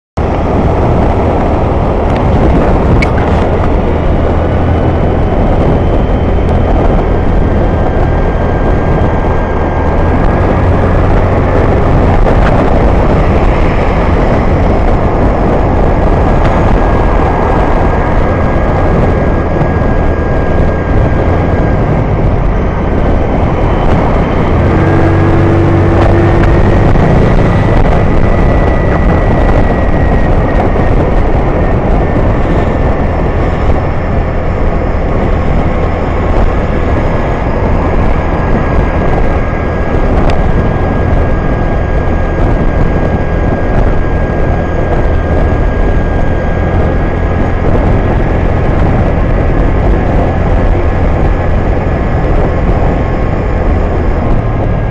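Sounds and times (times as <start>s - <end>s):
scooter engine running: 0.2s - 54.9s
steady tone: 0.2s - 54.9s
wind and road noise: 0.2s - 54.9s.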